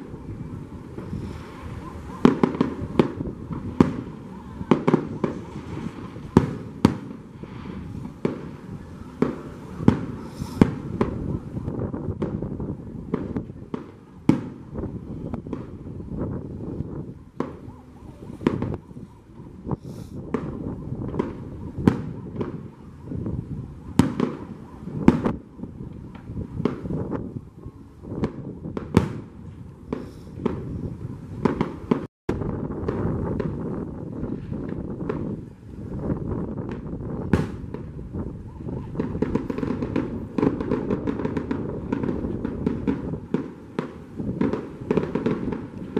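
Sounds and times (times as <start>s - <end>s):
continuous low rumble: 0.0s - 45.9s.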